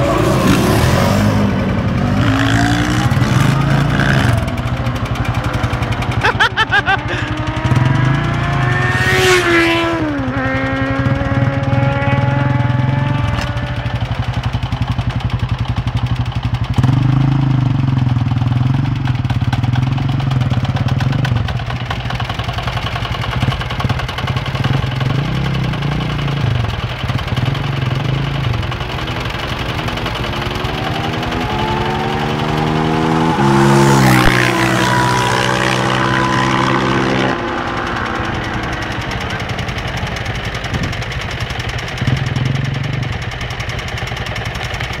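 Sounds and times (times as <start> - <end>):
quad engine revving: 0.0 - 14.8, 16.7 - 45.0
quad accelerating through gears: 0.0 - 45.0.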